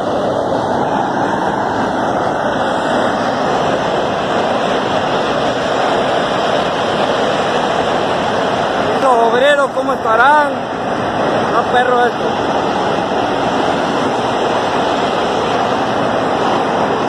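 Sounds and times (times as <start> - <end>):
steam escaping roar: 0.0 - 17.0.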